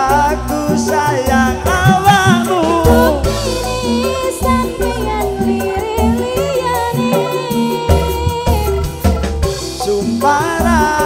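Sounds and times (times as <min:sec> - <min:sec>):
bass beat: 0:00.0 - 0:11.0
duet vocal singing: 0:00.0 - 0:11.0
hand drums: 0:00.0 - 0:11.0
live band music: 0:00.0 - 0:11.0.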